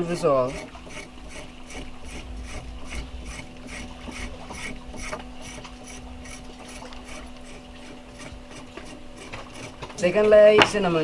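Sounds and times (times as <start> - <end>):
bark being scraped by hand: 0.0 - 11.0.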